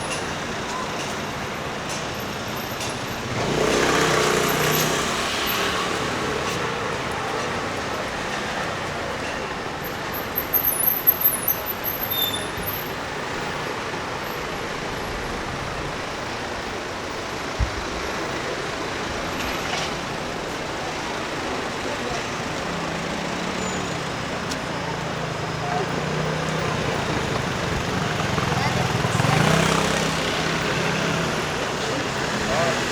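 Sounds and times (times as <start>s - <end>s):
street traffic: 0.0s - 32.9s.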